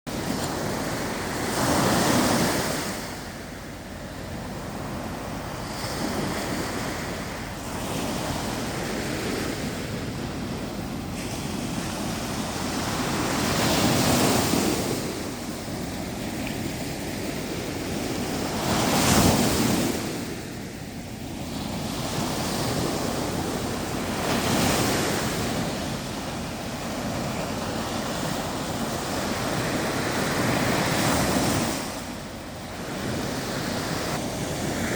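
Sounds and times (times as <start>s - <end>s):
waves breaking on shore: 0.1s - 34.9s
wind buffeting microphone: 0.1s - 34.9s.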